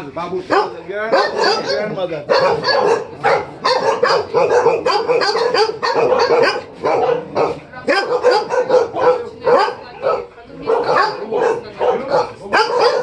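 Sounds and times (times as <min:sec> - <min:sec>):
dogs barking rapidly: 0:00.4 - 0:13.0.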